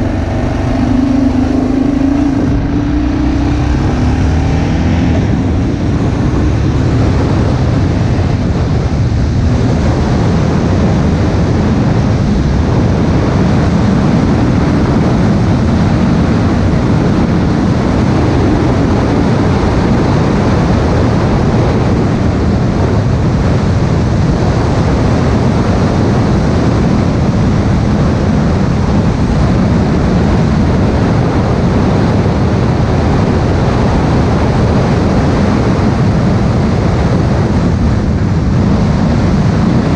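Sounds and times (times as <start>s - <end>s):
tyre roar on asphalt: 0.0s - 39.9s
wind rush: 0.0s - 39.9s.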